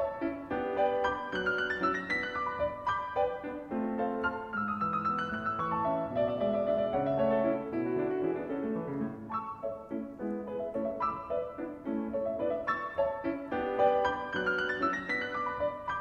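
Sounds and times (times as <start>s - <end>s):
piano playing quick notes: 0.0s - 16.0s.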